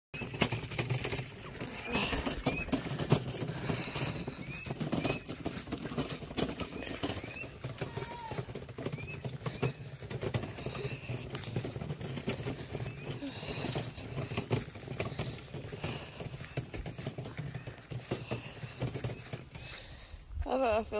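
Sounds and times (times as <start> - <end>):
footsteps on grass and straw: 0.2 - 20.9.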